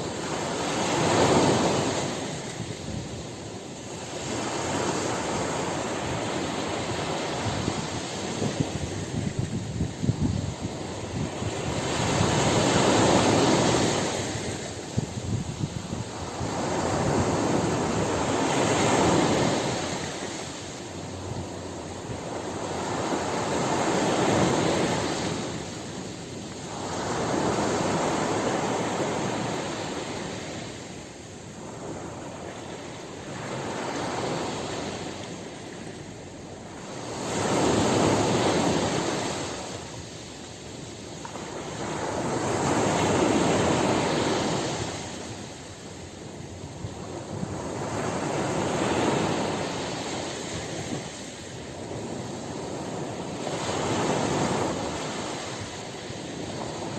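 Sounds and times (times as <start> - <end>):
waves breaking on shore: 0.0 - 56.9.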